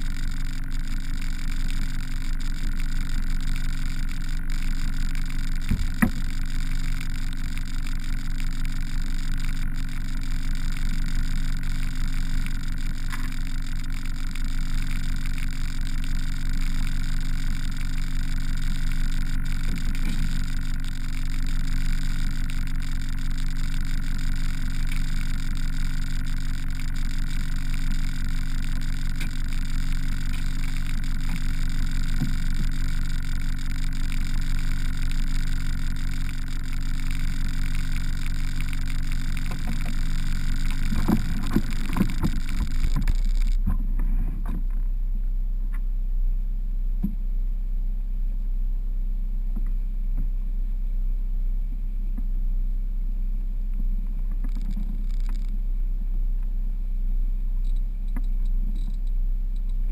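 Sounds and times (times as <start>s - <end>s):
outboard motor running: 0.0s - 46.0s, 52.0s - 59.9s.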